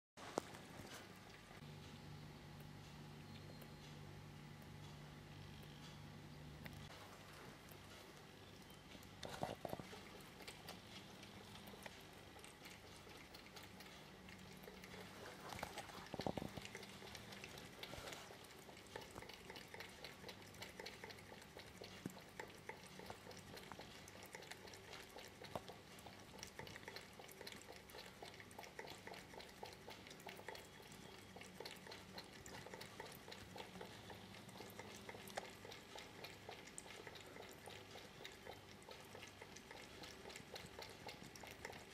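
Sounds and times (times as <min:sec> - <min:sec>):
cat lapping water: 0:00.2 - 0:01.7, 0:06.6 - 0:41.9.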